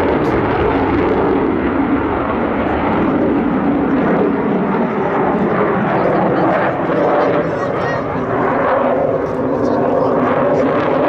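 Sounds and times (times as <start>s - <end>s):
loud jet engine noise: 0.0s - 11.0s.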